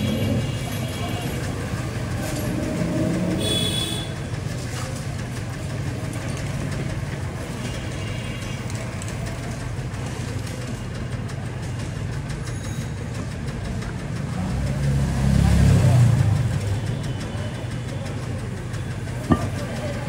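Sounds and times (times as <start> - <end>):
street noise: 0.0 - 20.0
vehicle engine idling: 0.0 - 20.0.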